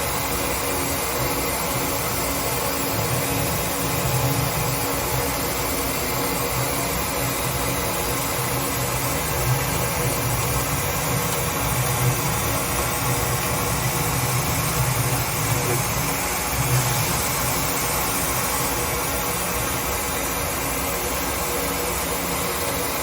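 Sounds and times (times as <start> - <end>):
lathe machine hum and whir: 0.0 - 23.0.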